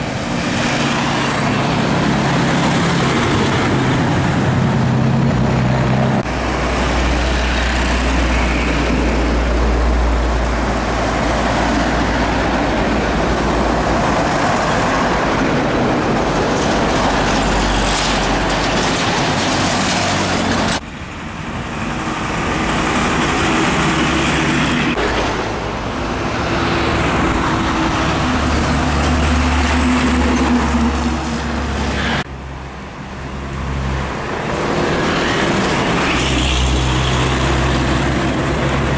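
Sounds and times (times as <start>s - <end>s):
diesel trucks driving past: 0.0s - 38.9s
tyre and road noise: 0.0s - 38.9s.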